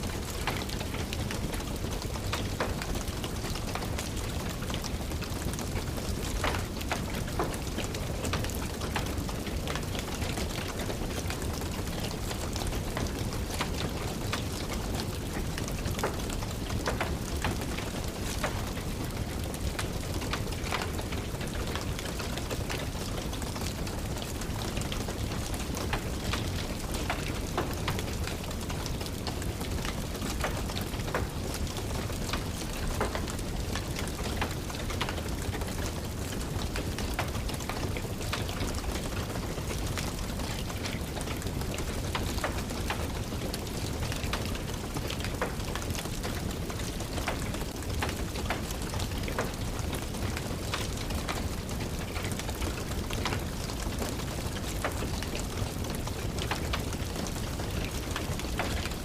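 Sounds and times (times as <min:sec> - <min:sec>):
steady rain: 0:00.0 - 0:59.0
wood fire crackling and popping: 0:00.1 - 0:59.0.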